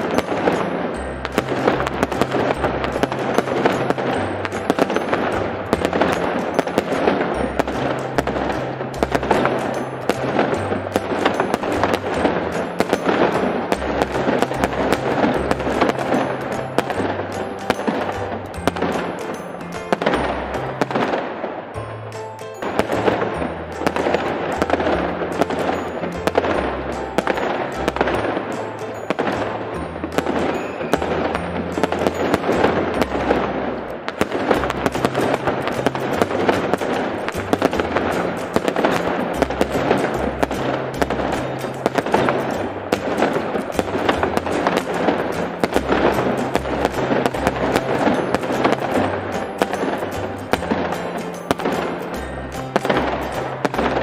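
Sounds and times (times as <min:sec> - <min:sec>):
music with bass line: 0:00.0 - 0:19.2, 0:21.8 - 0:54.0
fireworks bangs and crackles: 0:00.0 - 0:54.0.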